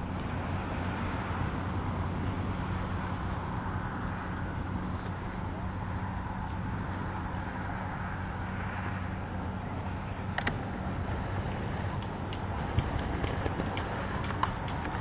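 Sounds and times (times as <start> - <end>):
low engine hum: 0.0 - 15.0
outdoor noise: 0.0 - 15.0.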